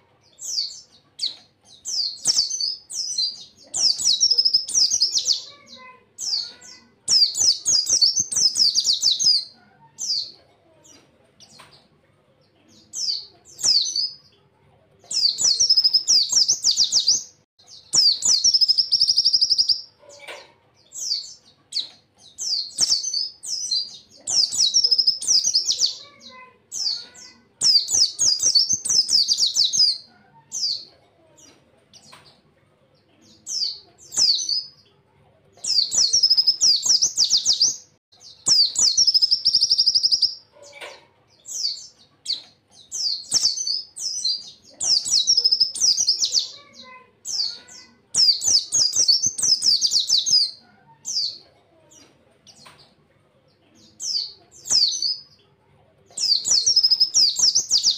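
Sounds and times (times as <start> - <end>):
bird chattering song: 0.0 - 53.0, 53.8 - 57.9.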